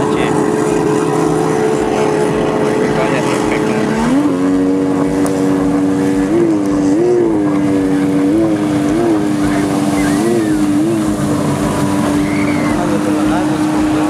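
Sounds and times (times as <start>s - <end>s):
jet ski engines whining: 0.0s - 14.0s.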